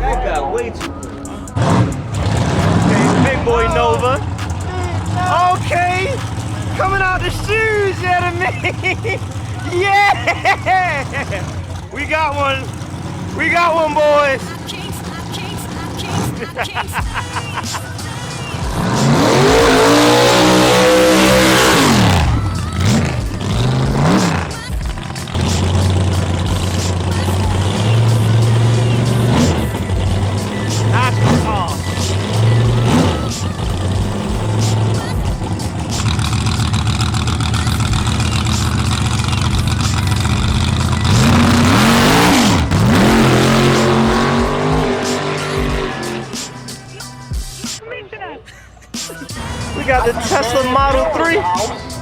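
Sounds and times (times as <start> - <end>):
drag racing car engine passing: 0.0 - 47.8, 48.8 - 52.0.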